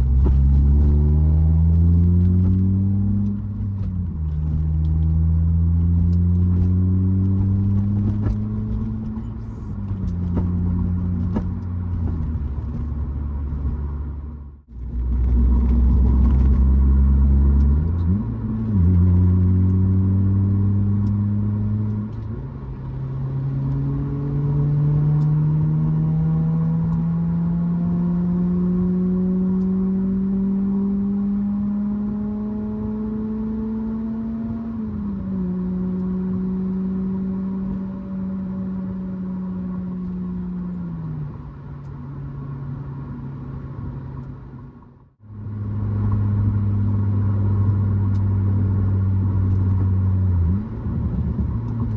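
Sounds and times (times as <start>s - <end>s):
car engine cruising: 0.0s - 51.9s.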